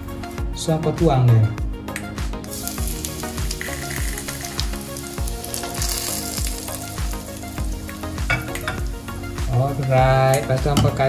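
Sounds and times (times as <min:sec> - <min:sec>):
background music with steady beat: 0:00.0 - 0:11.0
hot oil sizzling: 0:02.0 - 0:11.0.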